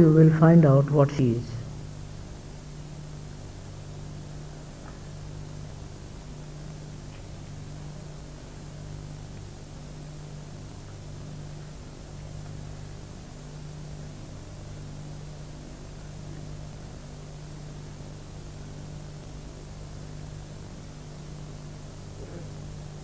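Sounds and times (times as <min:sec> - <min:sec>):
low electrical hum: 0:00.0 - 0:23.0
steady hiss: 0:00.0 - 0:23.0.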